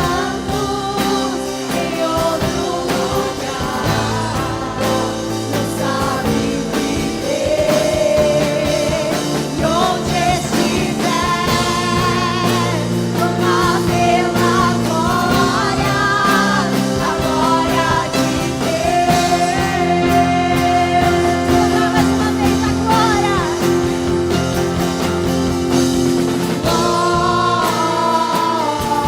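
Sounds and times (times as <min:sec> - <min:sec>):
person singing with vibrato: 0:00.0 - 0:24.6, 0:26.4 - 0:29.0
band playing worship song: 0:00.0 - 0:29.0.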